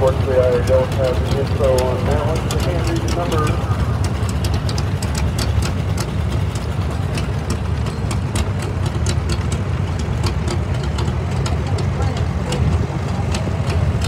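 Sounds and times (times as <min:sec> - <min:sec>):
tractor engines rumbling: 0:00.0 - 0:14.0.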